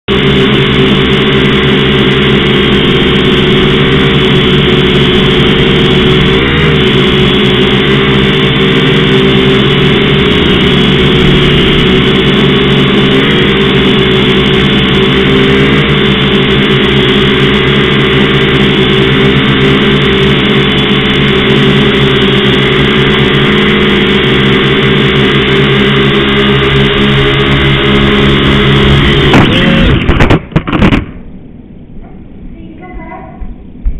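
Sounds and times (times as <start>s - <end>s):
drone propellers whirring: 0.0s - 33.9s.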